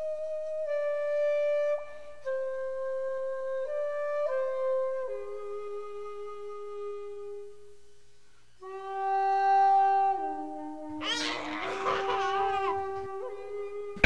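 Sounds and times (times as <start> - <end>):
solo flute melody: 0.0 - 7.8, 8.6 - 14.0.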